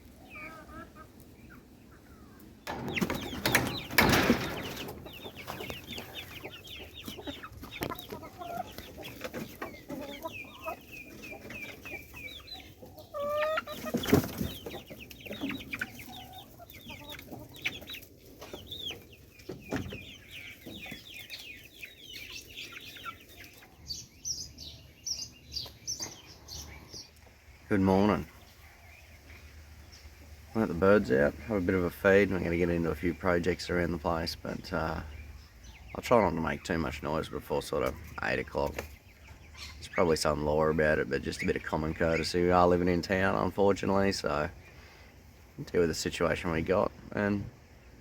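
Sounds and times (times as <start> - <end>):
chickens clucking: 0.0 - 48.0.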